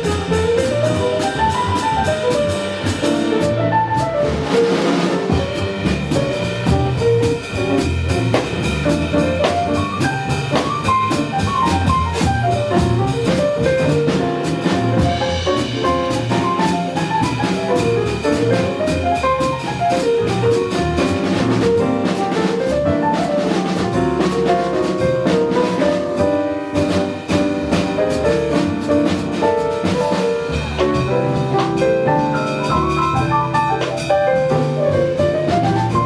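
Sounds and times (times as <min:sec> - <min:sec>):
jazz ensemble playing: 0:00.0 - 0:36.0.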